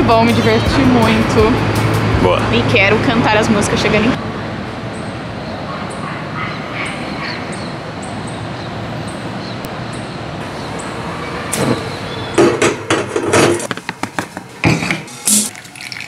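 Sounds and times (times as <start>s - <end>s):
steady background rush: 0.0s - 15.5s.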